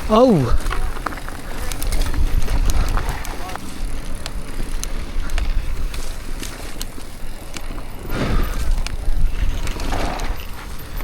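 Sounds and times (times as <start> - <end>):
bike rattles and clicks: 0.0 - 11.0
bike tyres crunching on dirt: 0.0 - 11.0.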